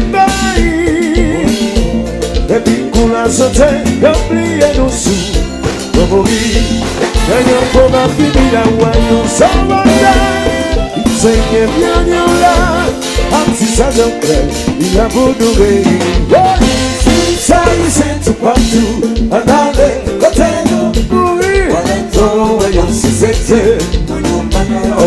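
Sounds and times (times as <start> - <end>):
drum kit with cymbals: 0.0 - 25.0
man singing lead vocals: 0.0 - 25.0.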